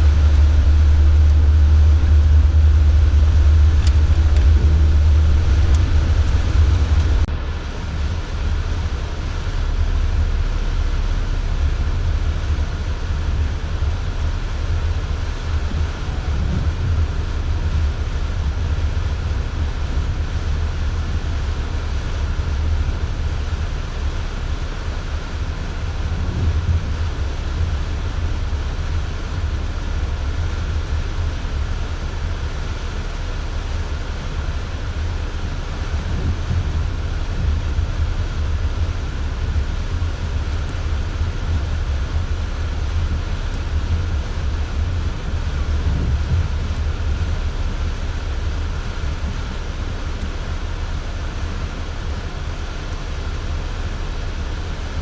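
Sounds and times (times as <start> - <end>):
in-cabin vehicle drone: 0.0 - 55.0
road and wind noise: 0.0 - 55.0.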